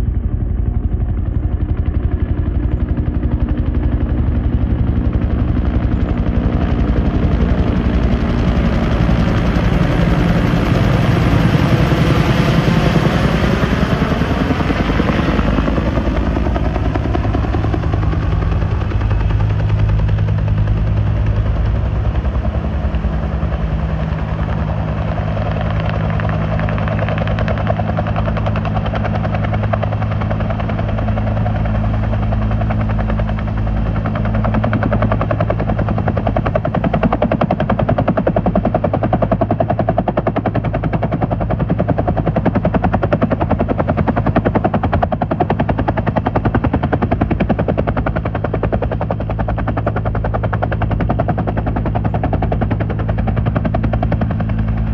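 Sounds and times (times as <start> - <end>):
helicopter rotor blades chopping: 0.0 - 54.9
helicopter turbine hum: 0.0 - 54.9.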